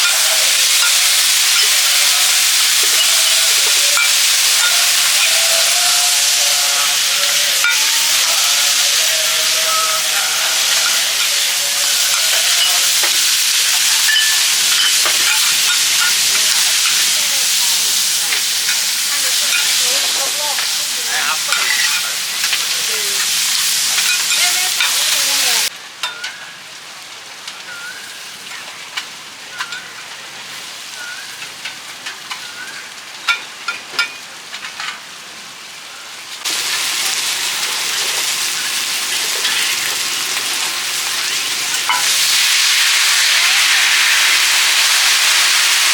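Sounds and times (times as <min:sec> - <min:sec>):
cooking utensils scraping and clinking: 0:00.0 - 0:26.6, 0:27.5 - 0:30.2, 0:30.9 - 0:35.1, 0:36.4 - 0:45.9
food sizzling in hot oil: 0:00.0 - 0:45.9.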